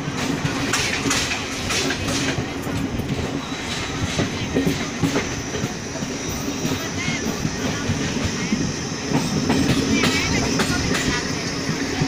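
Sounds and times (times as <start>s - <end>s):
train wheels rumbling on track: 0.0s - 12.0s
wheels clicking over rail joints: 0.0s - 12.0s.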